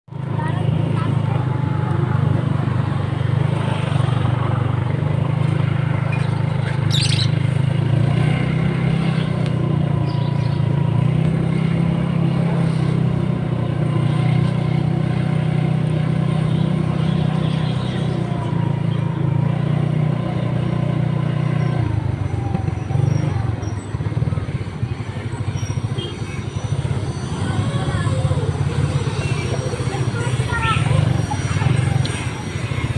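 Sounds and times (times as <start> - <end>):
motorcycle engine droning: 0.1 - 32.9
road and traffic noise: 0.1 - 32.9.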